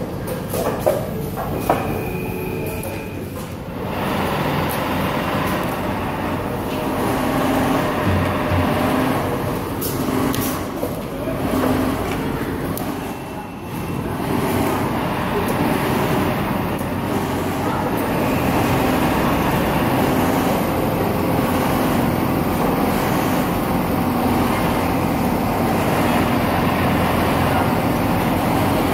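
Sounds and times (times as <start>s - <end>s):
sewing machine running: 3.7s - 28.9s.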